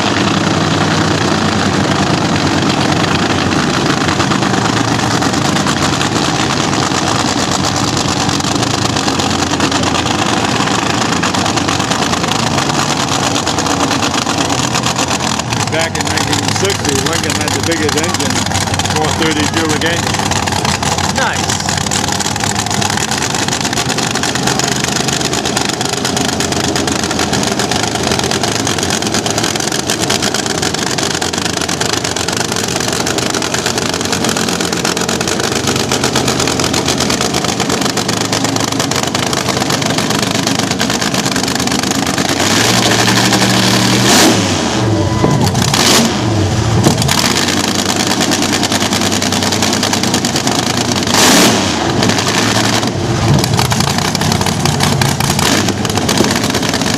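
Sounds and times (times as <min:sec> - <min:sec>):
dragster engines revving: 0:00.0 - 0:56.9.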